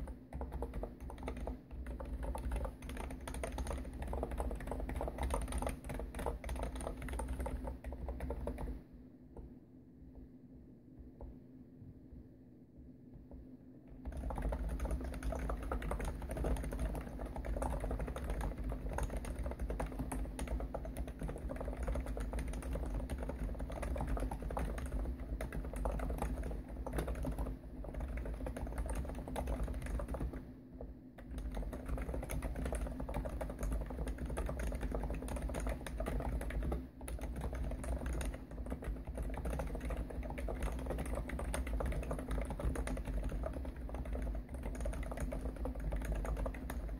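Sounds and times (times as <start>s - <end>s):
fast keyboard typing: 0.0s - 8.8s, 13.9s - 46.9s
low desk hum: 0.0s - 46.9s.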